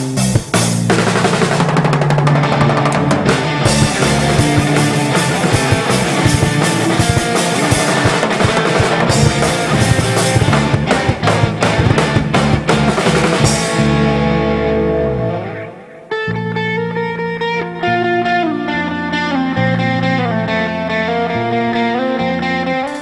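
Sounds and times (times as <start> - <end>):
rock music with drums and guitar: 0.0 - 23.0.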